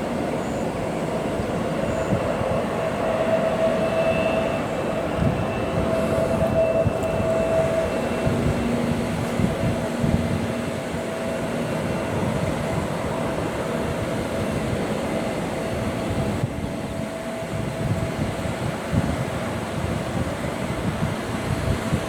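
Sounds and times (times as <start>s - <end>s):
jet engines roaring: 0.0s - 22.0s
faint high whine: 0.2s - 18.4s.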